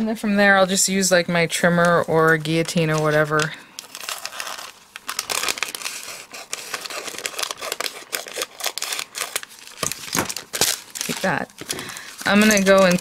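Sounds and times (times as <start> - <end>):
plastic packaging crinkling: 1.7 - 13.0.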